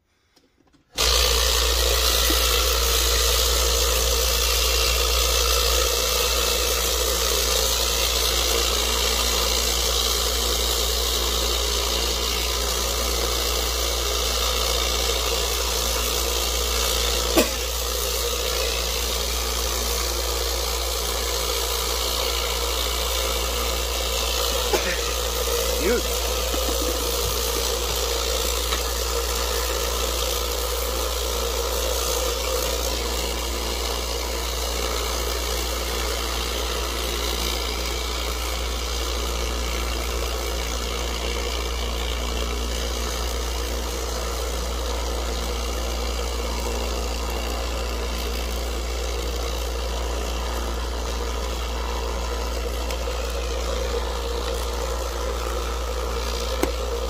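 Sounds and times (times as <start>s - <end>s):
rock tumbler humming: 1.0s - 57.0s.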